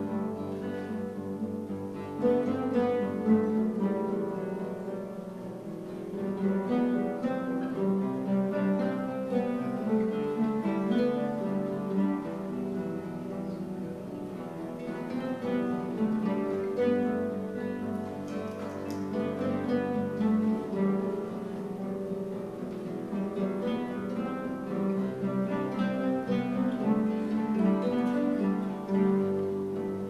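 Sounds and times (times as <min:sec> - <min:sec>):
classical guitars playing: 0:00.0 - 0:30.0.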